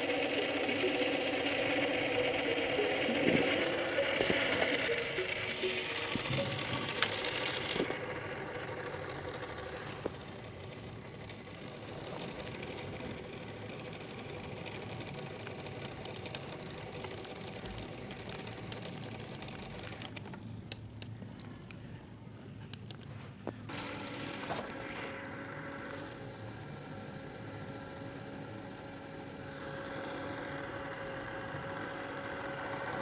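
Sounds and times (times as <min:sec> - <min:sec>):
small mechanism whirring: 0:00.0 - 0:33.0.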